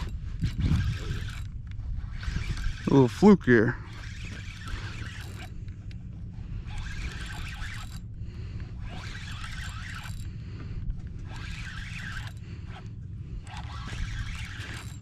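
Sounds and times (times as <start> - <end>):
spinning reel cranking: 0.0 - 15.0
wind rumble on microphone: 0.0 - 15.0.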